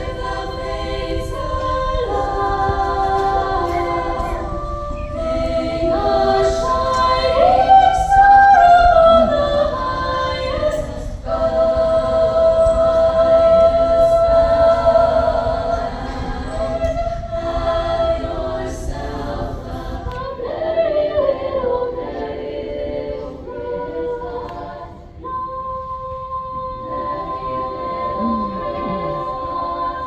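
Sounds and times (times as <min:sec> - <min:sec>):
group singing unaccompanied: 0:00.0 - 0:30.0.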